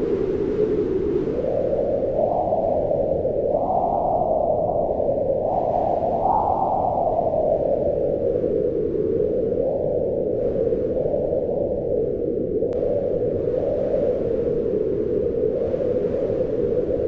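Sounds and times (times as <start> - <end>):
howling wind gusts: 0.0 - 17.0.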